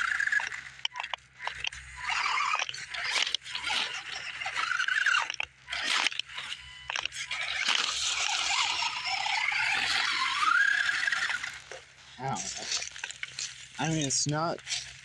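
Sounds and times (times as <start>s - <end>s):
electric motor and gears whining: 0.0s - 15.0s
sharp clicks: 0.0s - 15.0s
tyres crunching over rock: 0.0s - 15.0s.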